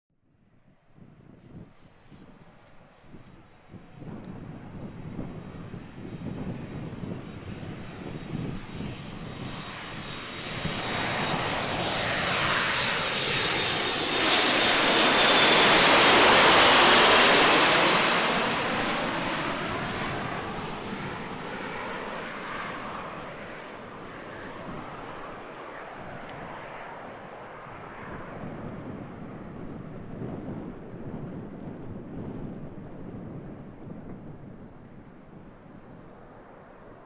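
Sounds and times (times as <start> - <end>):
jet engines passing with whine: 0.9 - 37.0.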